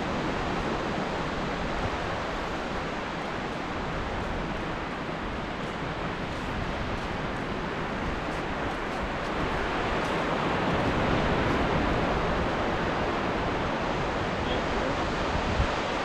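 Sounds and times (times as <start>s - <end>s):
waves breaking on shore: 0.0s - 16.0s.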